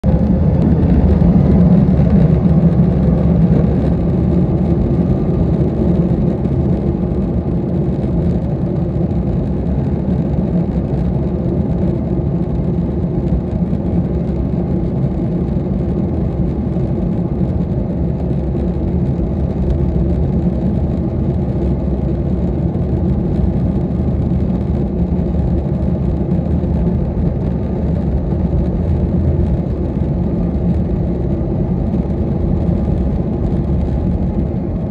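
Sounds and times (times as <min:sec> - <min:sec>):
jet engine drone inside cabin: 0:00.0 - 0:34.9.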